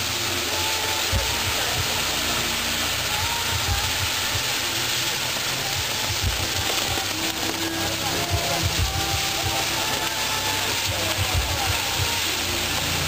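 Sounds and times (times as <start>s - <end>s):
firework fountains hissing: 0.0s - 13.0s.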